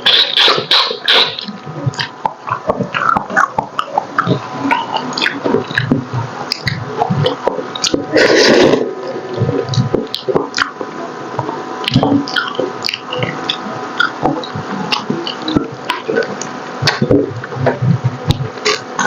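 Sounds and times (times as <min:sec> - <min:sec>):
wet chewing and lip smacks: 0:00.1 - 0:08.2, 0:09.3 - 0:17.6.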